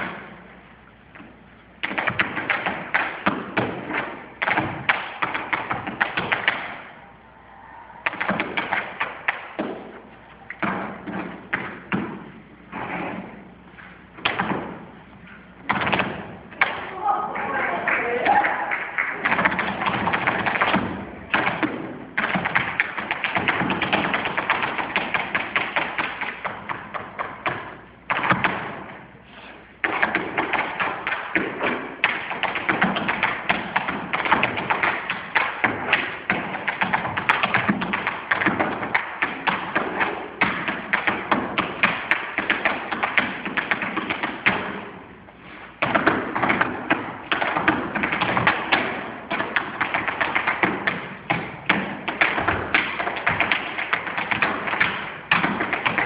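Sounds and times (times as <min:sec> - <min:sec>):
tap shoes on stage floor: 0:01.1 - 0:06.9, 0:08.0 - 0:29.0, 0:29.8 - 0:56.0.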